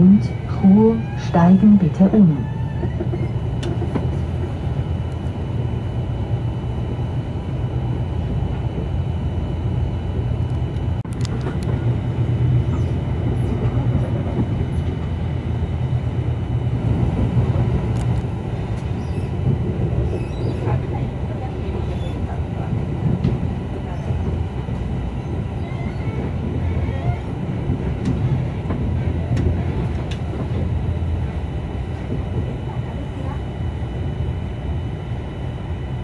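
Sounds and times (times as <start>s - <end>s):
train passing alongside: 0.0s - 36.0s
train running at speed: 0.0s - 36.0s.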